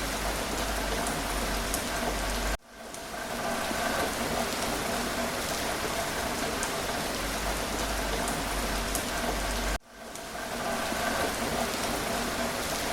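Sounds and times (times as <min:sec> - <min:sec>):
steady rain falling: 0:00.0 - 0:12.9.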